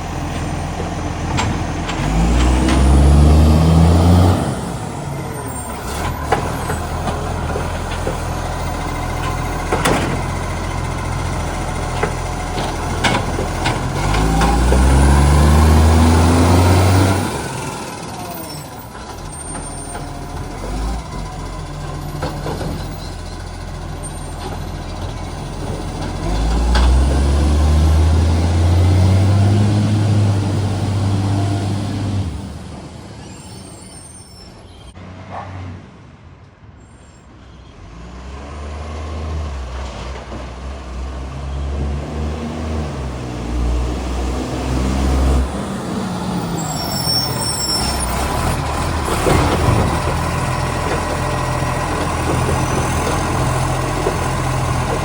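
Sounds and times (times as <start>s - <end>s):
garbage truck diesel engine revving: 0.0s - 33.8s, 37.9s - 55.0s.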